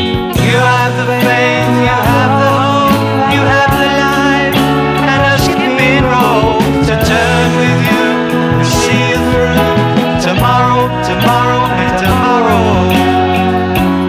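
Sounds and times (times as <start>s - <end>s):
folk-rock band playing: 0.0s - 14.0s
man singing: 0.0s - 14.0s.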